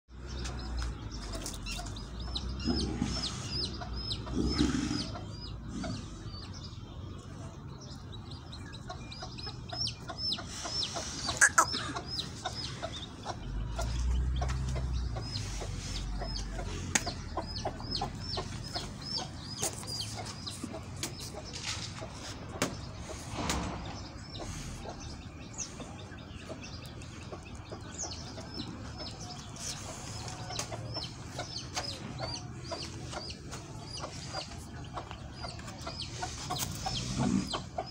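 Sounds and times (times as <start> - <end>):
chickens clucking: 0.2 - 37.9.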